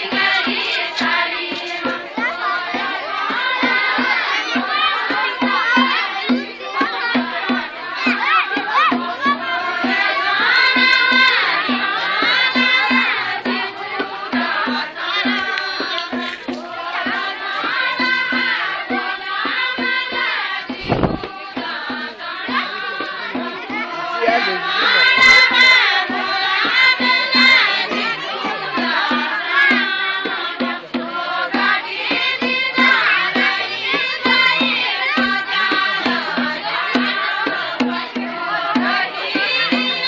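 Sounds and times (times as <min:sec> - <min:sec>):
drum beat: 0:00.0 - 0:40.0
group singing folk song: 0:00.0 - 0:40.0.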